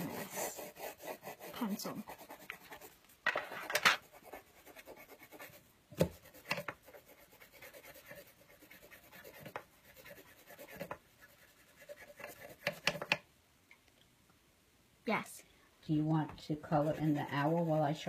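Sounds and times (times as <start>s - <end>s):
pencil scratching on paper: 0.0s - 13.2s, 16.4s - 18.0s.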